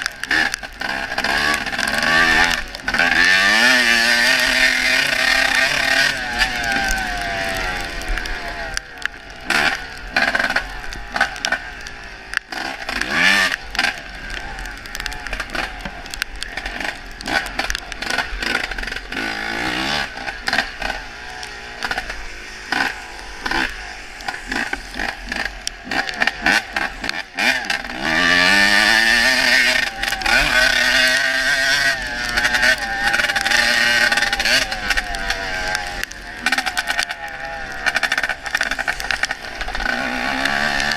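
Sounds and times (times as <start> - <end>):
dirt bike engine revving: 0.0 - 40.9
sharp knocks and crackles: 0.0 - 40.9.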